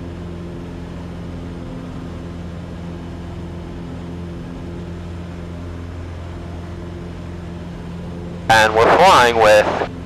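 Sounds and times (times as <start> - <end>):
light aircraft engine droning: 0.0 - 10.0.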